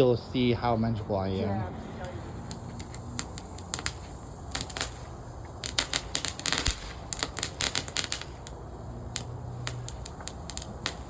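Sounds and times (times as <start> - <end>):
firework pops and crackles: 1.8 - 11.0.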